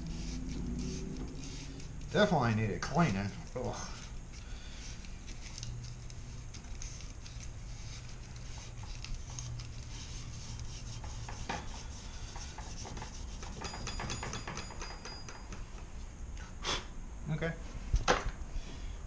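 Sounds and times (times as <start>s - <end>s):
hand rubbing and scraping: 0.0s - 16.1s.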